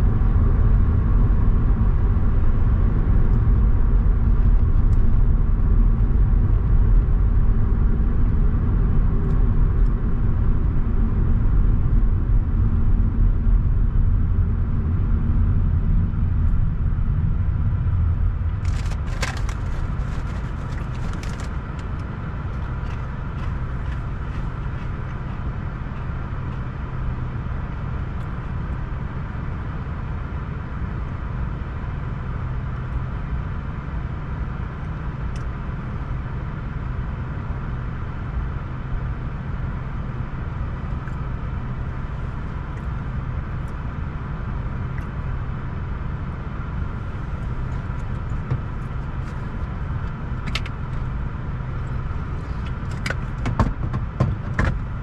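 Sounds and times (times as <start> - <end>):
car tyres and engine rumbling: 0.0 - 55.0.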